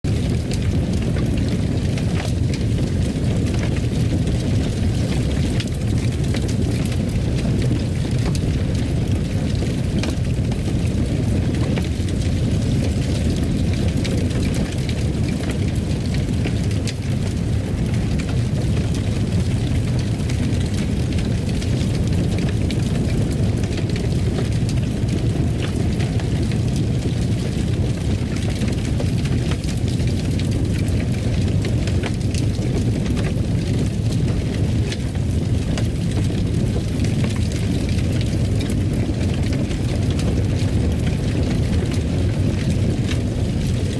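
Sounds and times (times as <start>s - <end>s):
fire crackling and popping: 0.0s - 43.9s
fire rumbling: 0.0s - 43.9s.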